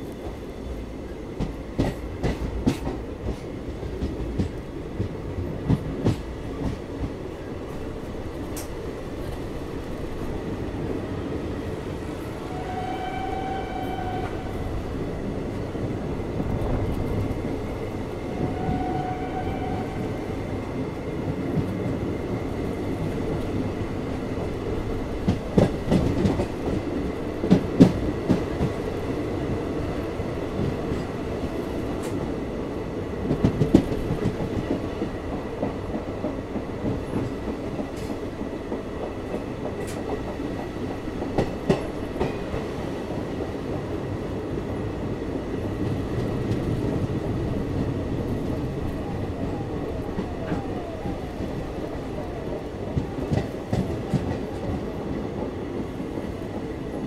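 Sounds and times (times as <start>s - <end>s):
rumble and rush of wheels and wind: 0.0s - 57.0s.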